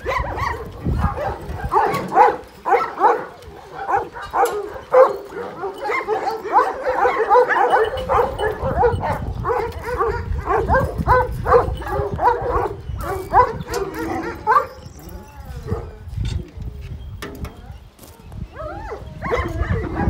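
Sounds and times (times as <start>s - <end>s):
dogs barking together: 0.0s - 16.1s, 18.6s - 20.0s.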